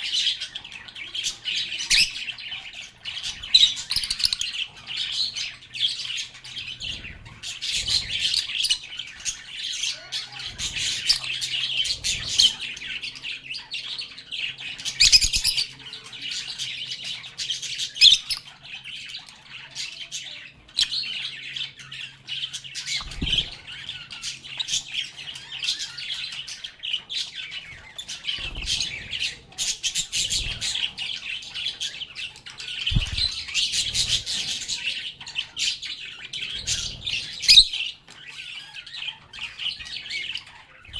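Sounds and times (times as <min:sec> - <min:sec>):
lovebirds chirping and squawking: 0:00.0 - 0:40.9.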